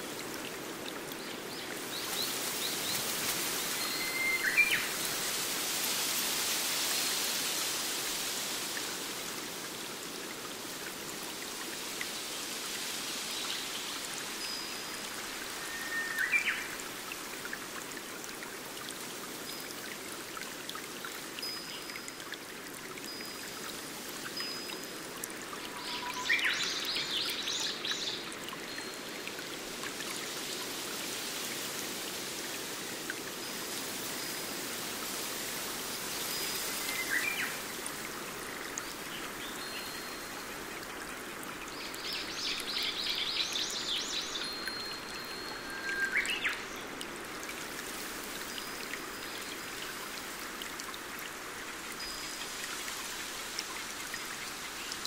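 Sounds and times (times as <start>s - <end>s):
stream water over rocks: 0.0s - 55.0s.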